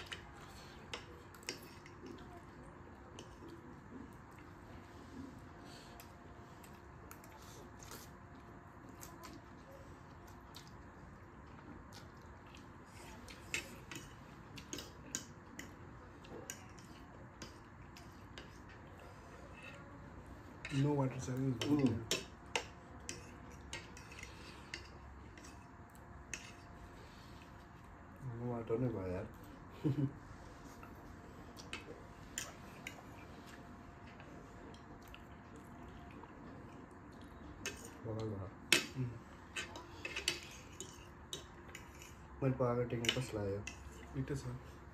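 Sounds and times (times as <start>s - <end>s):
faint eating sounds: 0.0s - 44.9s
soft chewing and mouth noises: 0.0s - 44.9s.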